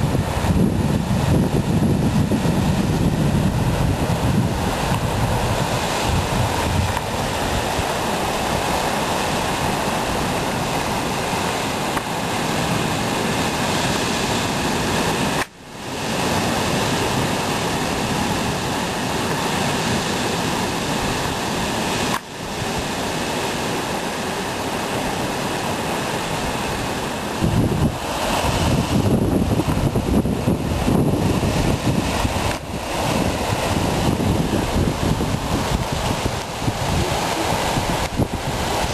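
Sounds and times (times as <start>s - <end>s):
surf breaking around rocks: 0.0s - 38.9s.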